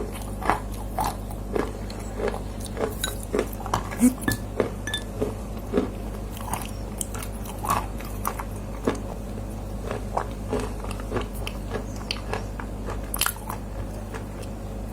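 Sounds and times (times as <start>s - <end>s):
person chewing crunchy clay: 0.0s - 14.9s.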